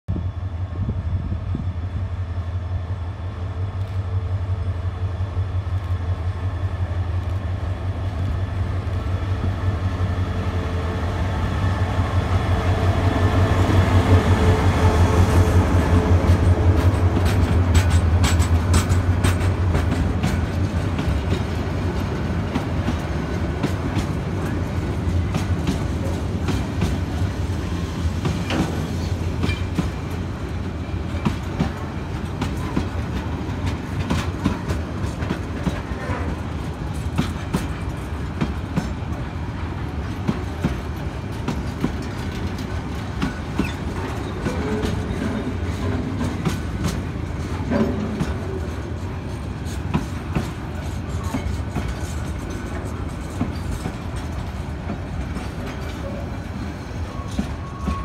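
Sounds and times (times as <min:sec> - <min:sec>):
diesel locomotive engine droning: 0:00.1 - 0:58.0
train wheels clicking over rail joints: 0:07.1 - 0:58.0.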